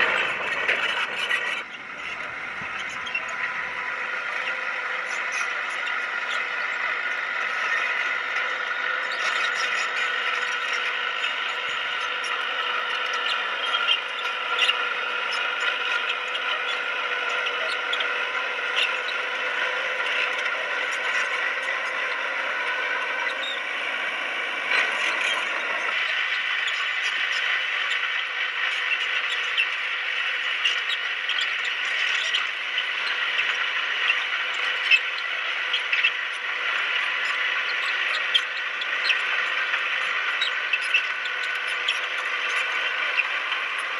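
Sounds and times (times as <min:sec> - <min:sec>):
bulldozer mechanical whine: 0:00.0 - 0:43.9
squeaks and clicks of tracks: 0:00.0 - 0:43.9.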